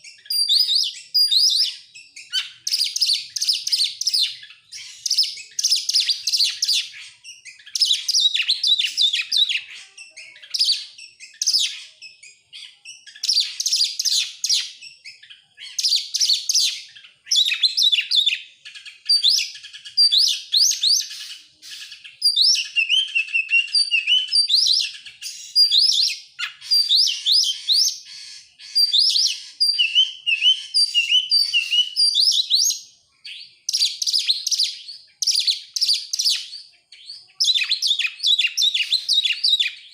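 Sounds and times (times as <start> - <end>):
songbird singing whistles and chatter: 0.0 - 39.9.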